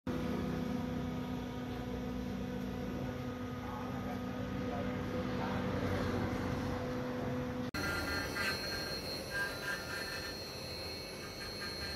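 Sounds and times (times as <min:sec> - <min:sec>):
motor humming: 0:00.1 - 0:11.9.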